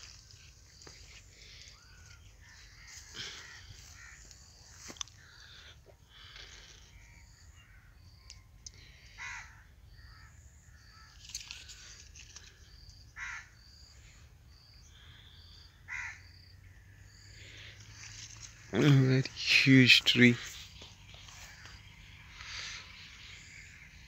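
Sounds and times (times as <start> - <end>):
harsh bird calls: 0.0 - 24.0.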